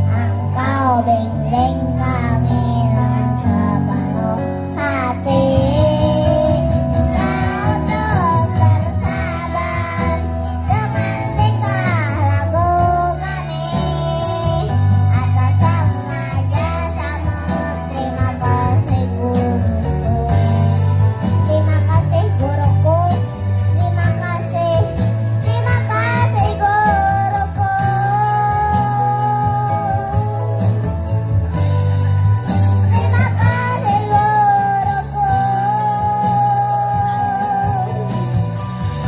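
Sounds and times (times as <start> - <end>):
backing music with bass beat: 5.1 - 39.0.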